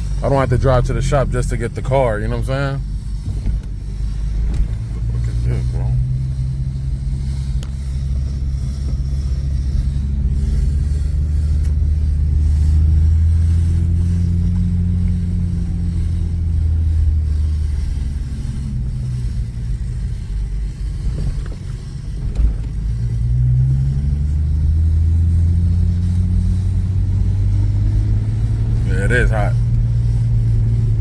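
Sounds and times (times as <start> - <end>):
car engine and road drone: 0.0 - 31.0.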